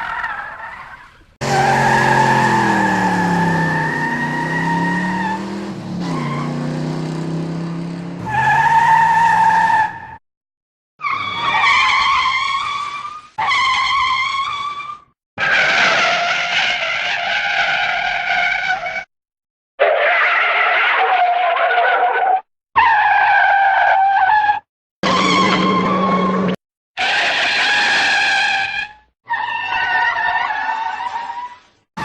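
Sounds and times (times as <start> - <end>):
car tyres screeching: 0.0 - 10.2, 11.0 - 19.1, 19.8 - 31.7.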